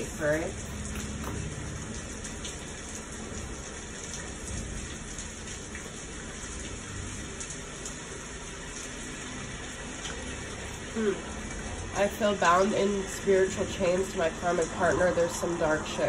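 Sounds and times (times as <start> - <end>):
rain hissing: 0.0 - 16.0
raindrop ticks: 0.0 - 16.0.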